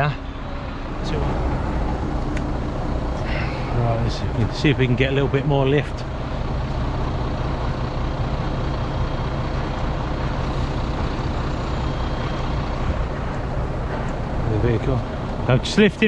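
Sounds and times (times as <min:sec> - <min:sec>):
constant low hum: 0:00.0 - 0:16.0
diesel engine running: 0:00.0 - 0:16.0.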